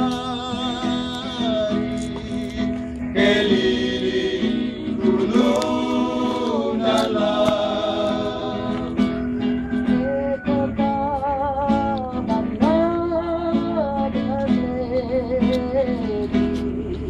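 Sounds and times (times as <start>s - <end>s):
male vocal group singing in harmony: 0.0s - 14.7s
acoustic guitar: 0.0s - 17.0s.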